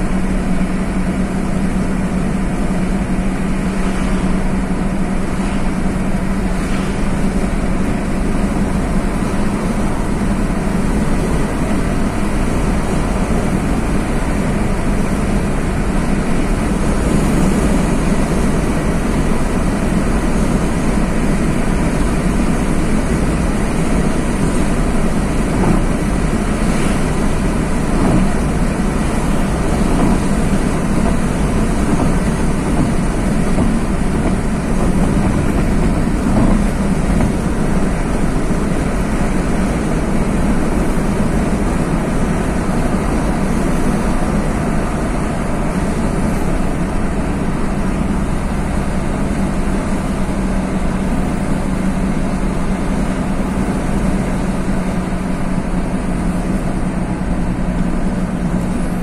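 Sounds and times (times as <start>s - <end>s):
car engine and tyre drone: 0.0s - 59.0s.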